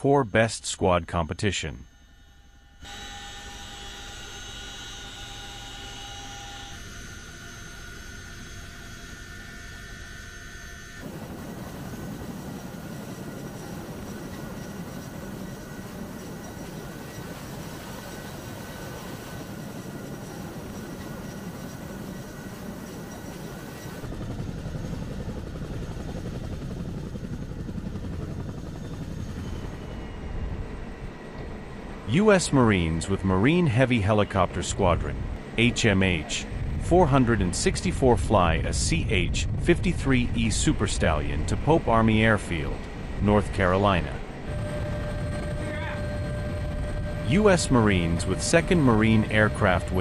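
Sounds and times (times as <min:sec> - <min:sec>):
helicopter cabin whine and rumble: 0:00.0 - 0:50.0
helicopter rotors rushing on ground: 0:02.8 - 0:50.0.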